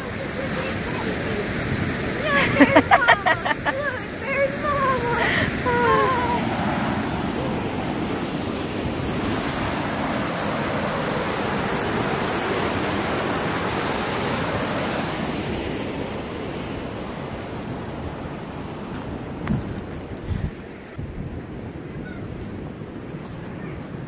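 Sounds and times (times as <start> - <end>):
water rushing over waterfall: 0.0 - 20.0.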